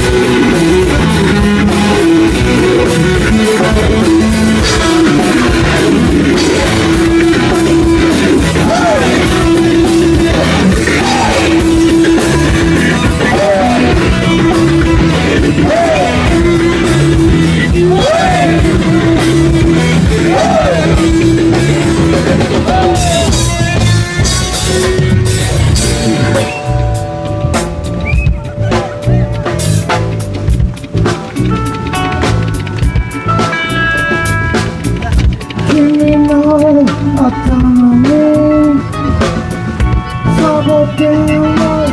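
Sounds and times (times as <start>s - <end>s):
drum kit: 0.0s - 41.9s
electric guitar: 0.0s - 41.9s
live rock band playing: 0.0s - 41.9s.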